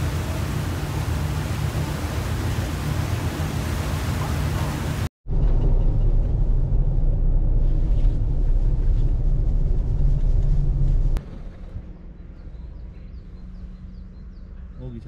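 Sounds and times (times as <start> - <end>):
ferry engine low rumble: 0.0 - 15.0.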